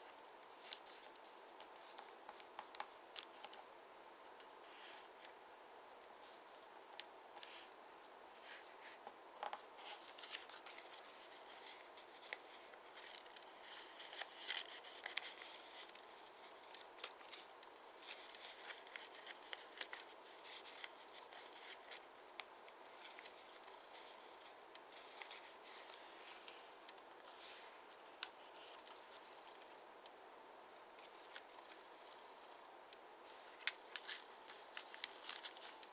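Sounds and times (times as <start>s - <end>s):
paper being folded and creased: 0.0s - 3.7s, 6.1s - 29.7s, 31.0s - 32.6s, 33.5s - 35.9s.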